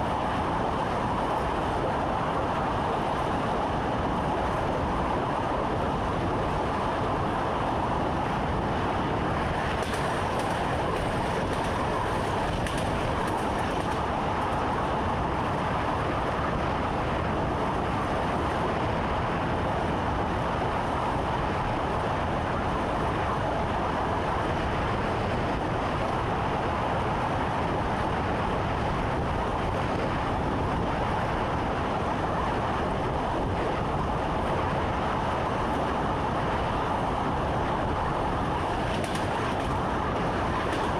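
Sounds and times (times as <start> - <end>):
train running: 0.0 - 40.9.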